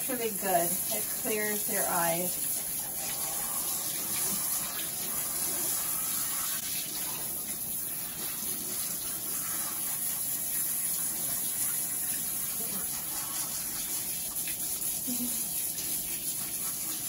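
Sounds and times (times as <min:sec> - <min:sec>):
water splashing into bathtub: 0:00.0 - 0:17.0
water spraying from shower sprayer: 0:00.0 - 0:17.0.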